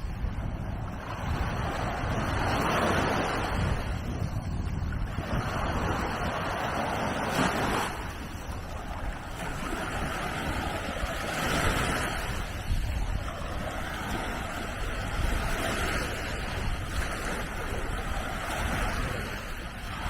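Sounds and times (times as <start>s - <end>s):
small waves breaking on beach: 0.0s - 20.0s
wind rumbling on microphone: 0.0s - 20.0s.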